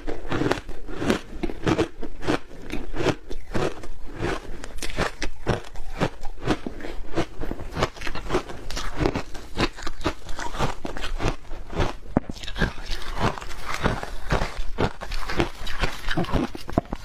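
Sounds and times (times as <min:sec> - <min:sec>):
crunching and chewing shaved ice: 0:00.0 - 0:17.0.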